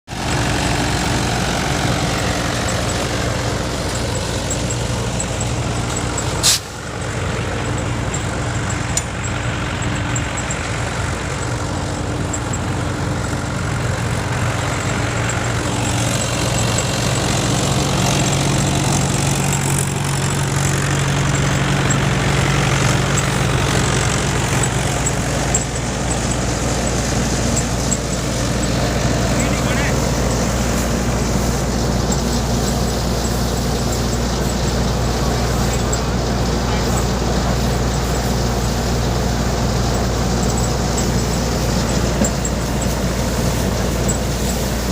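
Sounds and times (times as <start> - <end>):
engine hum: 0.0 - 44.9
thresher rattling: 0.1 - 44.9.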